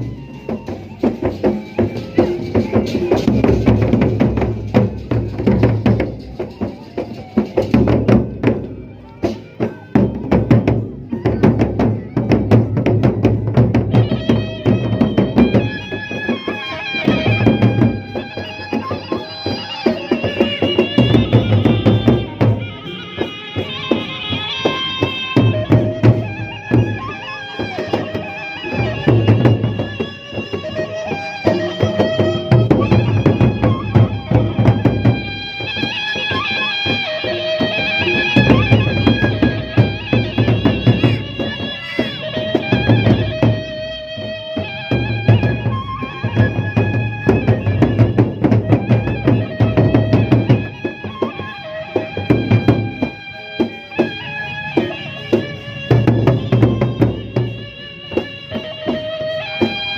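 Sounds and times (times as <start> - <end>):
bamboo flute melody: 0.0 - 59.9
large drums: 0.0 - 59.9
percussion strokes: 0.0 - 59.9.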